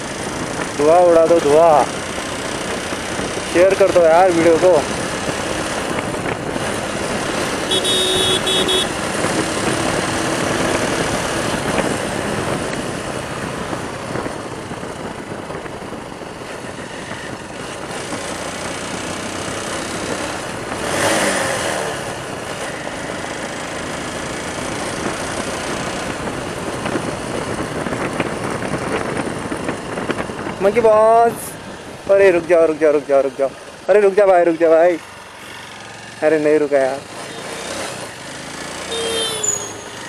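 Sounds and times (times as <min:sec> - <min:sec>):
motorcycle engine cruising: 0:00.0 - 0:40.0
wind and road noise: 0:00.0 - 0:40.0.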